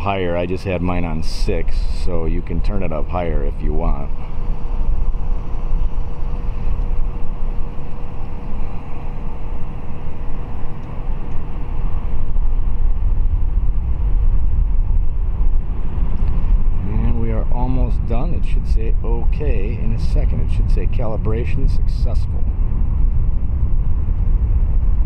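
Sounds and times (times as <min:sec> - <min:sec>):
trolling motor whine: 0:00.0 - 0:25.0
wind rumble on microphone: 0:00.0 - 0:25.0.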